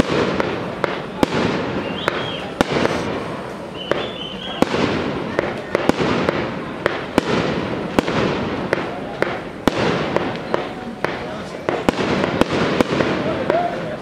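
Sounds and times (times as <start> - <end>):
fireworks bangs: 0.0 - 14.0
high firework whistles: 0.0 - 14.0.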